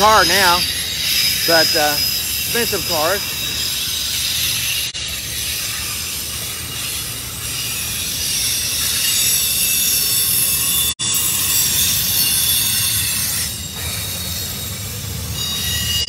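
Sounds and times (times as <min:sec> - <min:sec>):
high-pitched wheel squeal: 0:00.0 - 0:16.0
train wheels rumbling on rail: 0:00.0 - 0:16.0.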